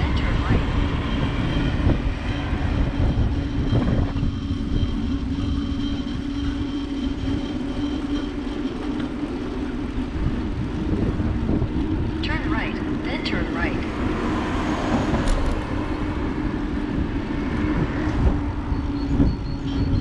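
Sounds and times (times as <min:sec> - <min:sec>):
road rumble: 0:00.0 - 0:20.0
steady hum: 0:00.0 - 0:20.0
wind on microphone: 0:00.0 - 0:20.0.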